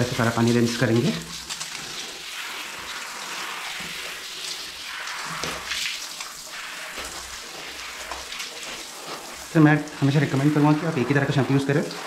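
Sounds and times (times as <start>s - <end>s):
shower head water spraying: 0.0s - 12.0s.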